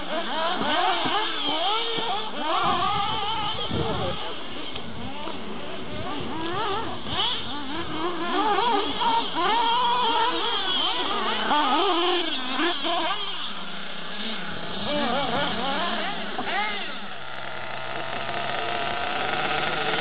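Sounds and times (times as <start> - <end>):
small engine revving: 0.0 - 20.0.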